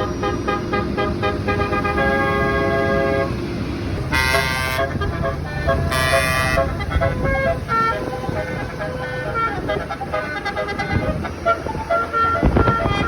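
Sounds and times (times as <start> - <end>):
multi-tone bus horn playing a tune: 0.0 - 13.0.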